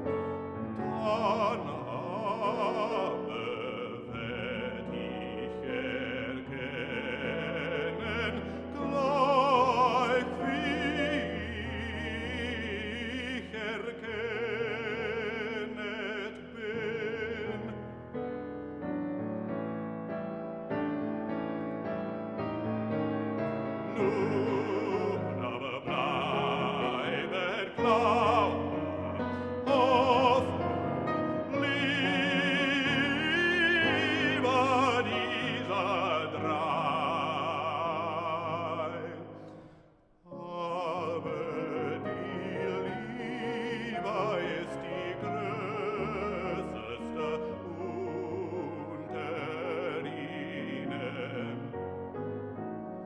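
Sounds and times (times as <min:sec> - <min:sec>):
man singing with vibrato: 0:00.0 - 0:18.0, 0:23.6 - 0:39.7, 0:40.3 - 0:51.9
grand piano accompaniment: 0:00.0 - 0:53.0.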